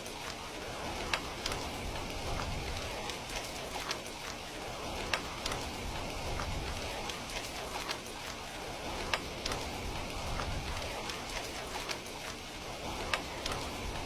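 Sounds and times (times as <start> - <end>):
steady rain: 0.0 - 14.0
wood fire popping: 0.0 - 14.0.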